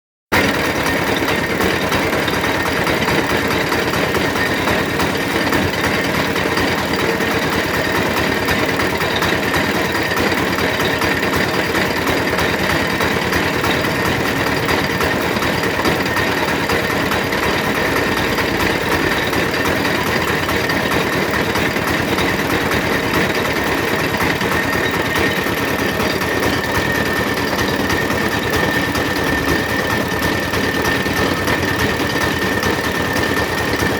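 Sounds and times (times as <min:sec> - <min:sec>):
high machine whine: 0:00.4 - 0:33.9
juice machine mechanical clatter: 0:00.4 - 0:33.9.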